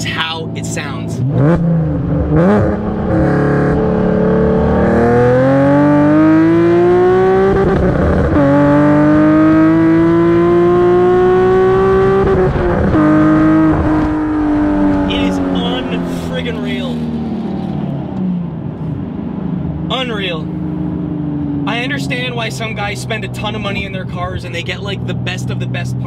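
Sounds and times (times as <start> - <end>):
car exhaust accelerating: 0.0 - 26.0.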